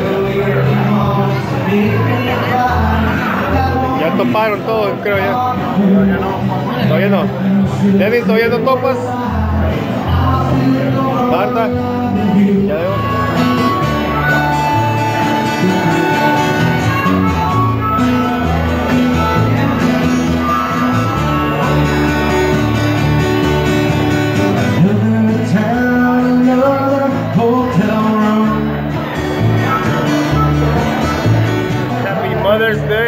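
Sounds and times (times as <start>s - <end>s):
man singing: 0.0s - 23.0s, 24.4s - 31.2s
guitar: 0.0s - 33.0s
upright bass: 0.0s - 33.0s.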